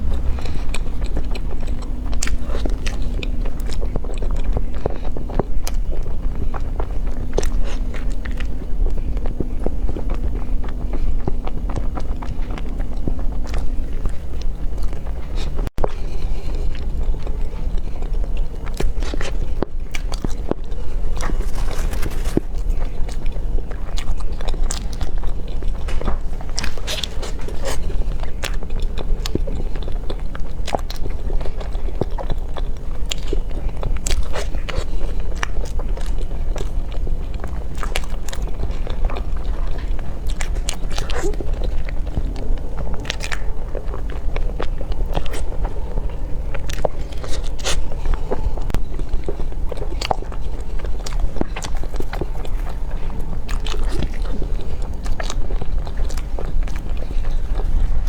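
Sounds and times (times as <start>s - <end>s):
person chewing with wet smacks: 0.0s - 58.0s
steady low hum: 0.0s - 58.0s.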